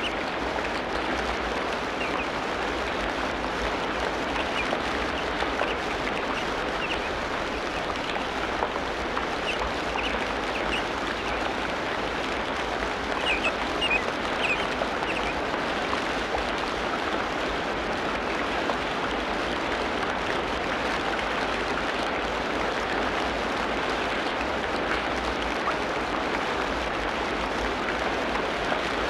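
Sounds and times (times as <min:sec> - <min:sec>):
dense hiss like rain: 0:00.0 - 0:29.0.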